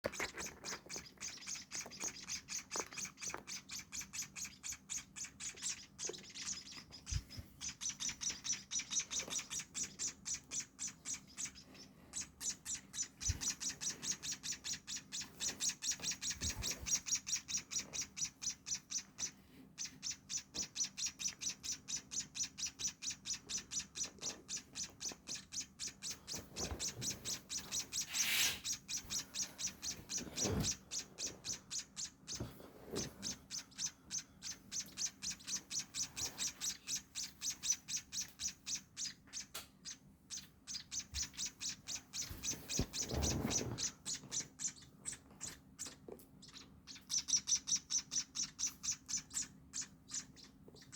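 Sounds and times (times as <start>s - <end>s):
nestlings begging chirps: 0.0s - 50.9s.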